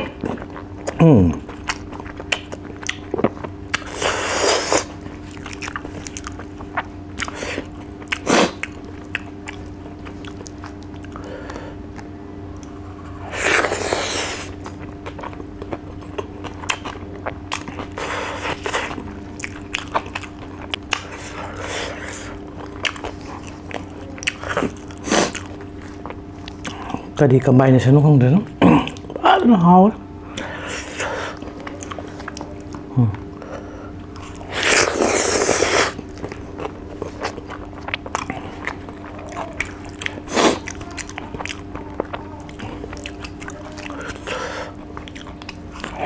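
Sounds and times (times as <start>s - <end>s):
man chewing: 0.0s - 27.2s, 28.6s - 29.2s, 30.3s - 46.0s.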